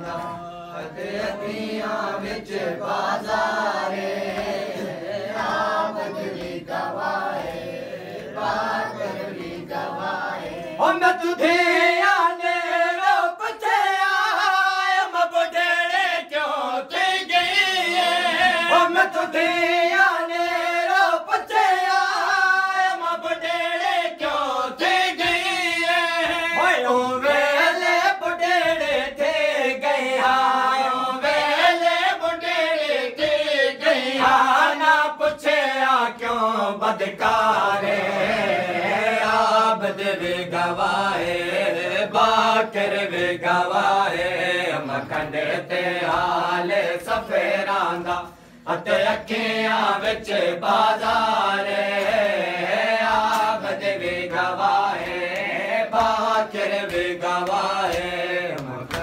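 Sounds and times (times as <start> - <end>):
men chanting a lament in unison: 0.0 - 59.0.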